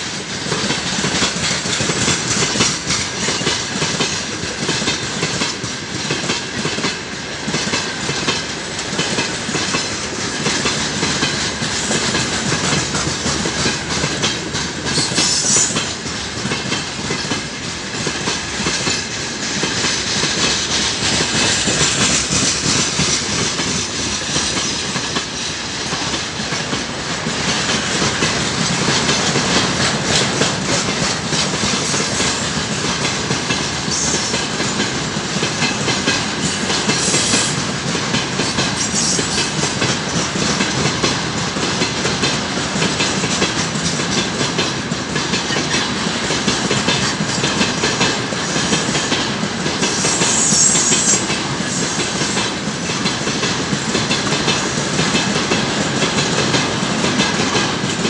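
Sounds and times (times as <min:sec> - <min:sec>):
freight train rumbling past: 0:00.0 - 0:58.0
wheels clattering over rail joints: 0:00.1 - 0:58.0.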